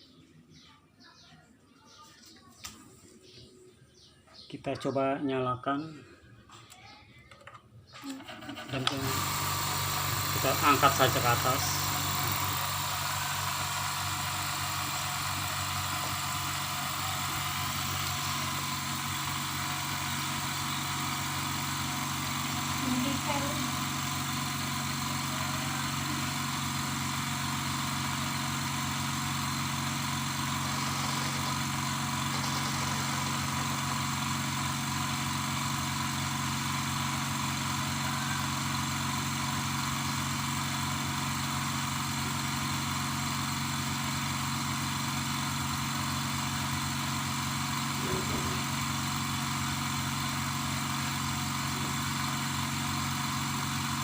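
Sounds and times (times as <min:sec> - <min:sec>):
air compressor humming: 0:07.9 - 0:54.0.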